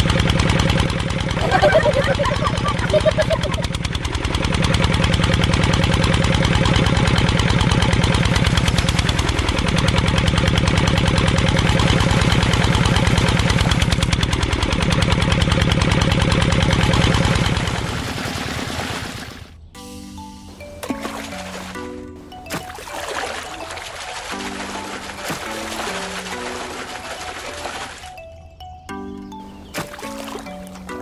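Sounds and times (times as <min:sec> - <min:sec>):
diesel pump engine chugging: 0:00.0 - 0:31.0.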